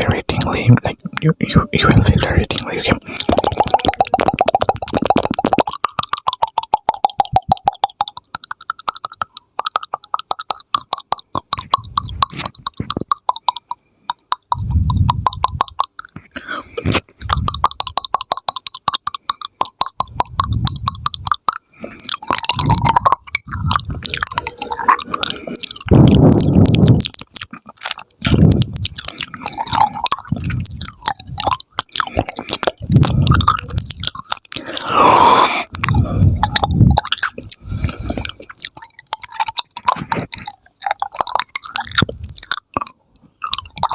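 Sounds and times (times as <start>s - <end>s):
tongue clicks and pops: 0.0s - 43.9s
wet mouth smacking: 0.0s - 43.9s.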